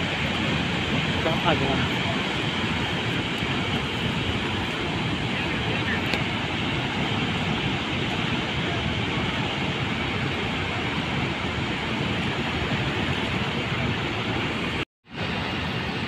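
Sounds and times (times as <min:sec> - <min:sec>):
choppy river: 0:00.0 - 0:16.0
waterfall roaring: 0:00.0 - 0:16.0
wind rumbling on microphone: 0:00.0 - 0:16.0.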